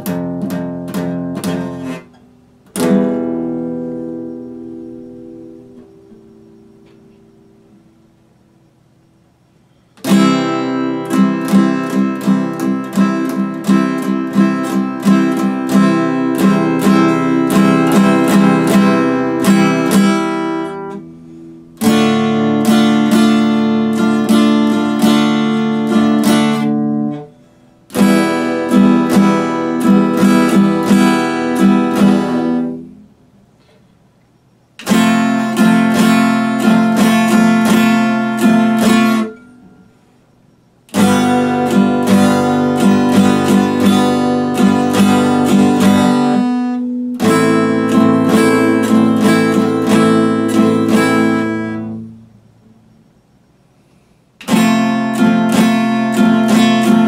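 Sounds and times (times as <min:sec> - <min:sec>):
acoustic guitar strumming chords: 0:00.0 - 0:33.9, 0:34.7 - 0:57.0.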